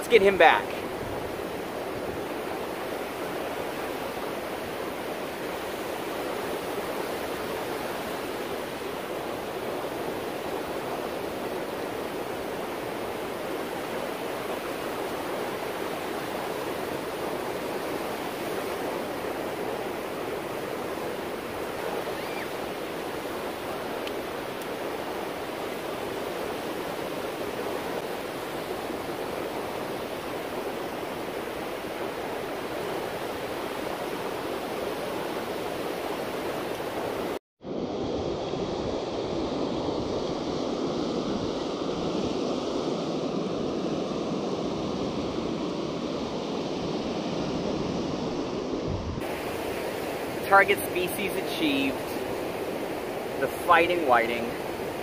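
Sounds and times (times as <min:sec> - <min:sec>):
surf washing onto beach: 0:00.0 - 0:55.0.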